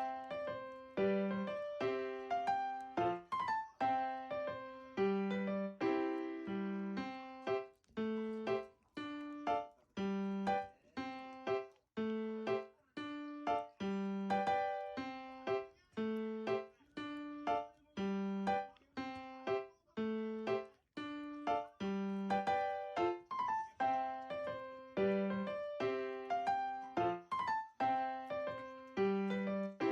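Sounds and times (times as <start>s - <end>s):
gentle piano melody: 0.0s - 29.9s.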